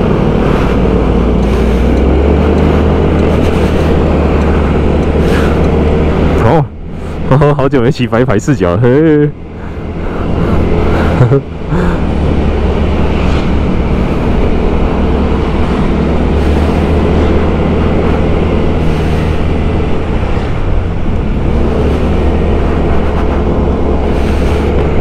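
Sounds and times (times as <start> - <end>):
motorbike engine running: 0.0 - 6.5, 9.5 - 25.0.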